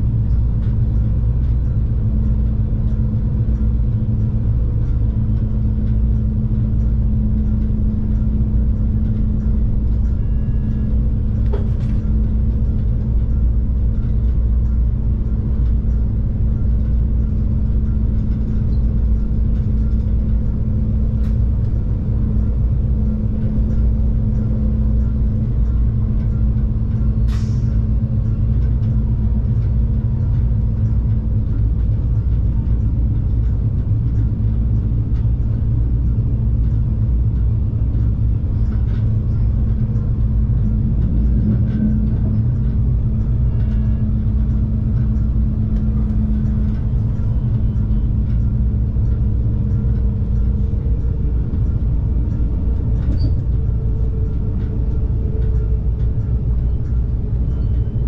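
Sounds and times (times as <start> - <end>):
diesel train rumbling: 0.0 - 58.0.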